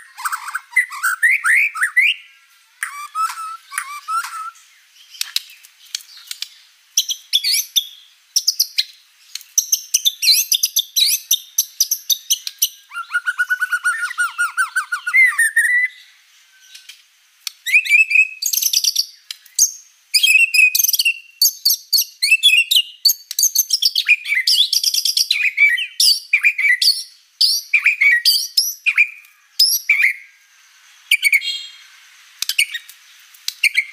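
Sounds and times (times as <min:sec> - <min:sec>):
bird singing whistles and trills: 0:00.0 - 0:17.0, 0:17.6 - 0:33.9.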